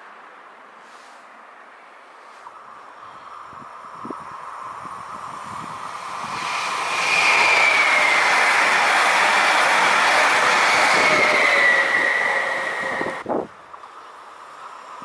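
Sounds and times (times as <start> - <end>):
high train whine: 2.0 - 15.0
train wheels on rails: 2.2 - 15.0.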